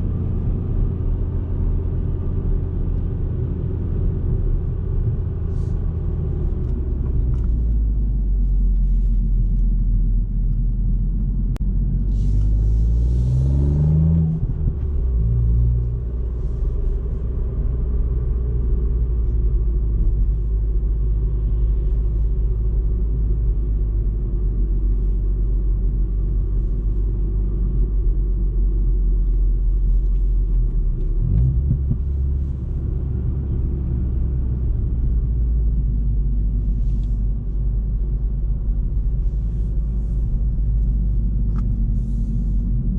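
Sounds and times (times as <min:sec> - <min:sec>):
car engine running while driving: 0:00.0 - 0:42.9.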